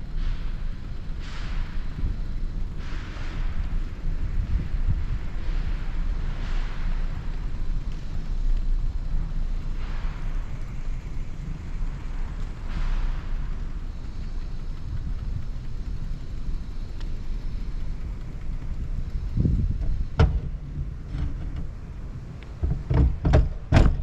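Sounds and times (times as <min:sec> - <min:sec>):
short swells of hiss: 0:00.0 - 0:22.6
low outdoor rumble: 0:00.0 - 0:24.0.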